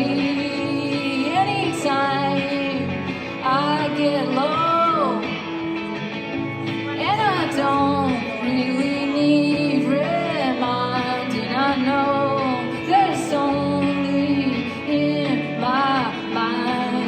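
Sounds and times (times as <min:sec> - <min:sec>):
person singing: 0:00.0 - 0:05.8, 0:06.6 - 0:17.0
live band with guitar: 0:00.0 - 0:17.0.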